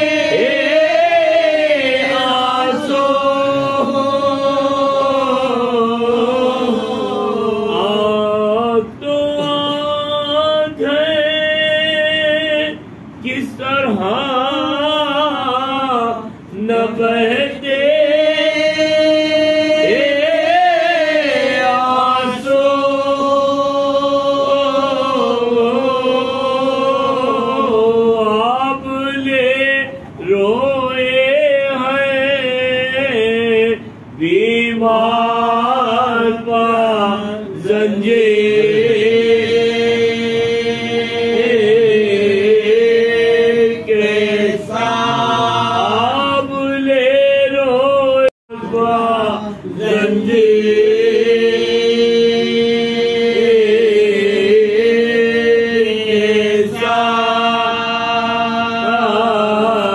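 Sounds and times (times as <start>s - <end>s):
men chanting: 0.0s - 59.9s.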